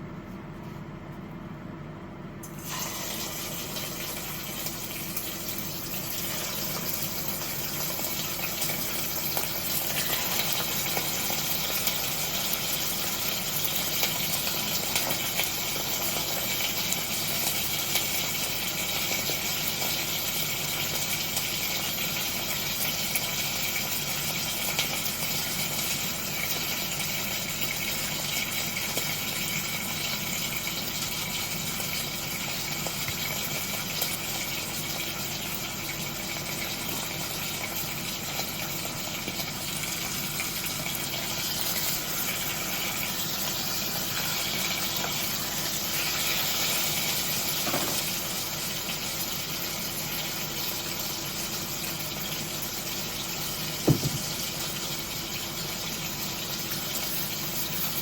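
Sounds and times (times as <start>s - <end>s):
water running from a tap: 2.6s - 58.0s.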